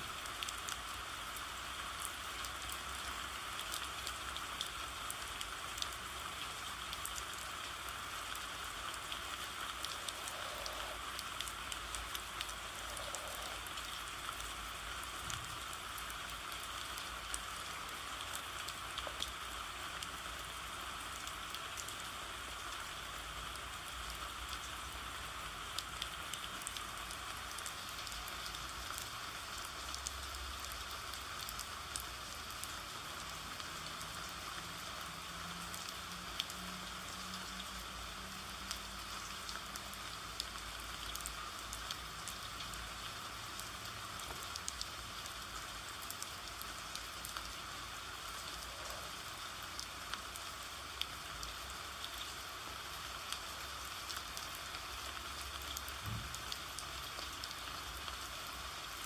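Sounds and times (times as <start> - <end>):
rain drops ticking: 0.0 - 59.0
steady rain: 0.0 - 59.0.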